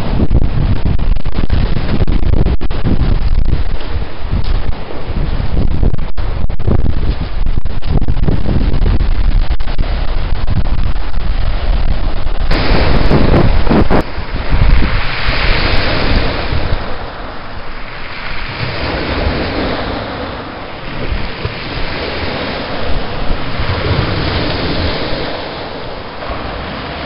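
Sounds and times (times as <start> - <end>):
surf washing on a beach: 0.0 - 27.0
wind rumbling on microphone: 0.0 - 27.0.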